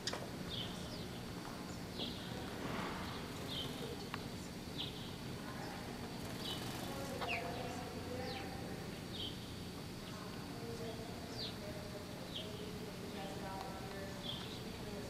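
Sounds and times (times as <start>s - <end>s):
small bird chirping: 0.0s - 13.4s, 14.0s - 14.8s
room noise hiss: 0.0s - 15.0s.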